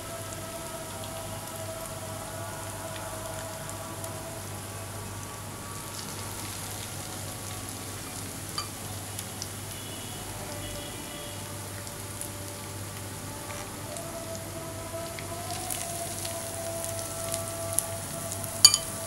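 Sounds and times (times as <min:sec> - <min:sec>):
fish frying in oil: 0:00.0 - 0:19.0.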